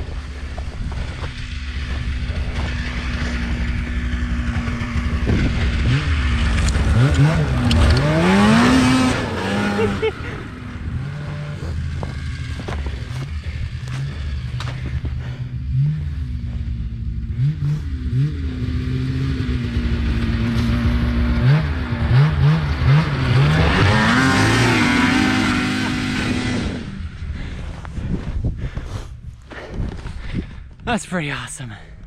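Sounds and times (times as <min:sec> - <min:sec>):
snowmobile engine revving: 0:00.0 - 0:27.9.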